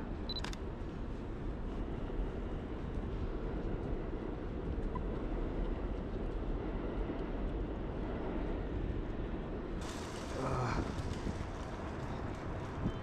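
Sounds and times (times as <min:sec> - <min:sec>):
city street noise: 0:00.0 - 0:13.0
wind buffeting microphone: 0:00.0 - 0:13.0.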